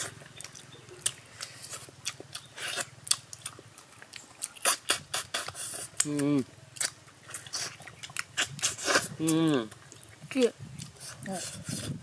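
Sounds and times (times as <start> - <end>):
people chewing and crunching: 0.0 - 12.0.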